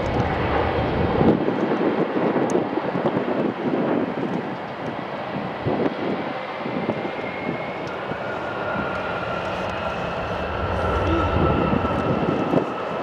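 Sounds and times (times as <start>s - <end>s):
jet engine noise with high whine: 0.0s - 13.0s.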